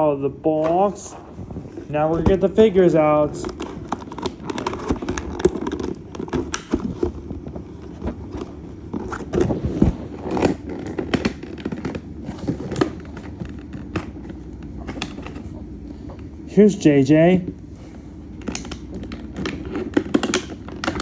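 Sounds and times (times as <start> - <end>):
plastic packaging crinkling: 0.6 - 15.5, 18.4 - 21.0.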